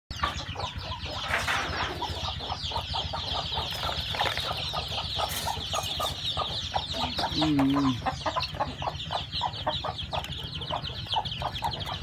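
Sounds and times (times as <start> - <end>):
chicks peeping: 0.1 - 12.0
low clucks: 0.1 - 12.0.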